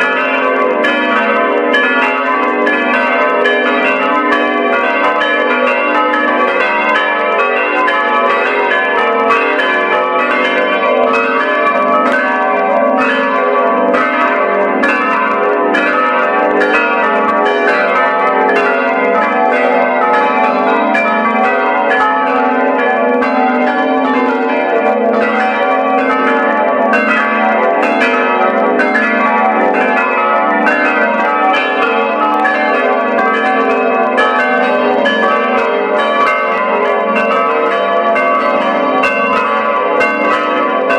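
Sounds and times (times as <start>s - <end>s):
church bells ringing in peal: 0.0s - 40.9s.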